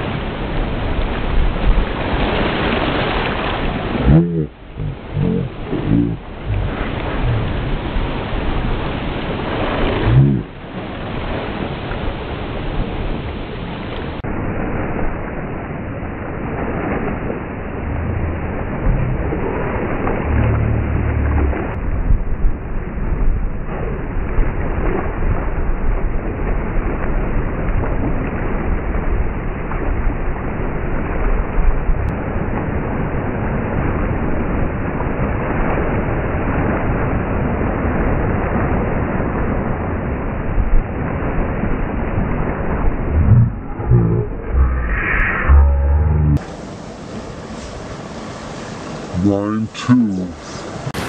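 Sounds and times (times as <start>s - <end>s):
wind buffeting microphone: 0.0s - 10.6s, 14.2s - 49.1s
water rushing along hull: 0.0s - 51.0s.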